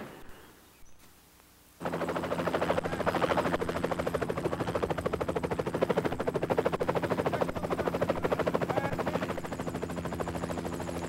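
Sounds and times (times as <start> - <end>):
helicopter engine hum: 1.8 - 11.0
helicopter rotor chopping: 1.8 - 11.0.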